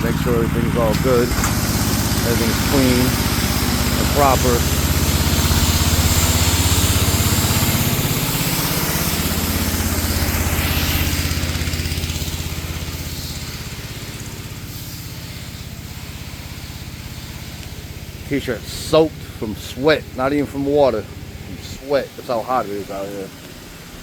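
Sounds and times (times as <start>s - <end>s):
pressure washer engine running: 0.0s - 24.0s
high hiss of spray: 0.1s - 24.0s.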